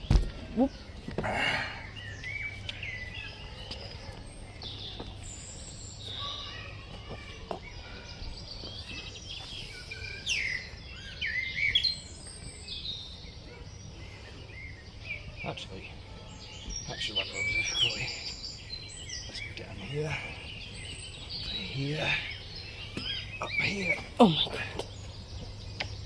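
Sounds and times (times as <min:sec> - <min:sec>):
wild birds chirping: 0:00.0 - 0:26.0.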